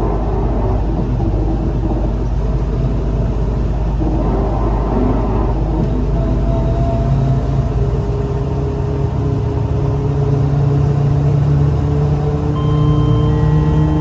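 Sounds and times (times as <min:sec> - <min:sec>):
bus engine drone with whine: 0:00.0 - 0:14.0.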